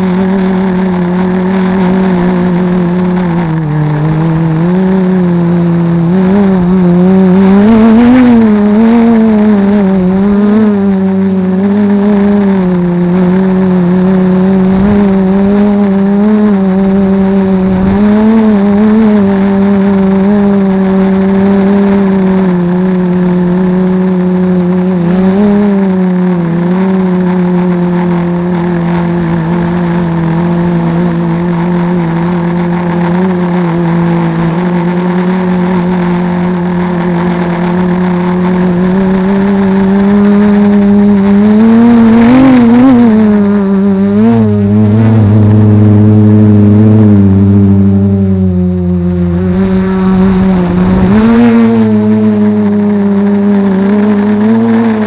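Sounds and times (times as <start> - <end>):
quadcopter motors droning: 0.0 - 55.0.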